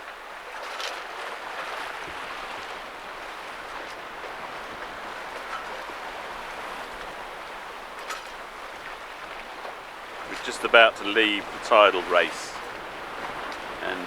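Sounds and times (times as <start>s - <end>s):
water rushing along boat hull: 0.0s - 14.0s.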